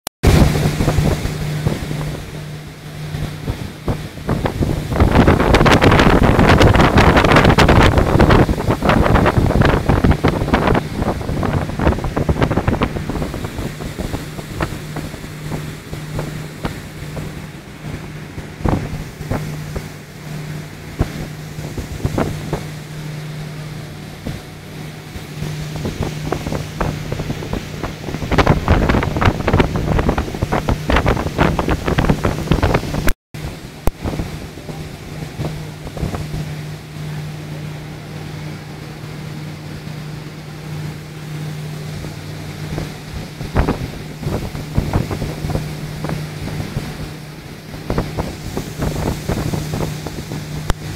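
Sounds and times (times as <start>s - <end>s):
boat motor running: 0.2s - 50.9s
wind buffeting microphone: 0.2s - 50.9s.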